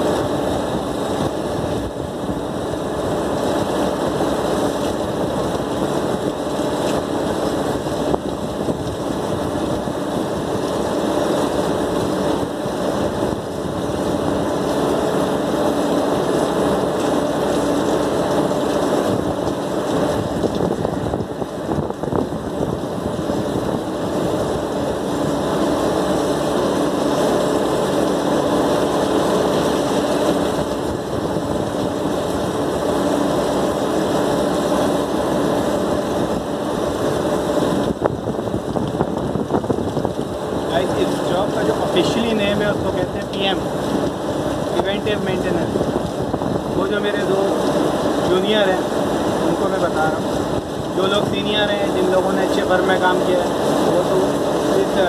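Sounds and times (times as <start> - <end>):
machinery humming: 0.0 - 55.0
water spraying from hose: 0.0 - 55.0.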